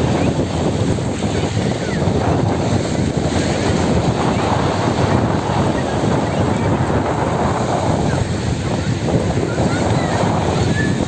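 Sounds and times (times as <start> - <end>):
sea waves washing in: 0.0 - 11.0
wind blowing across microphone: 0.0 - 11.0.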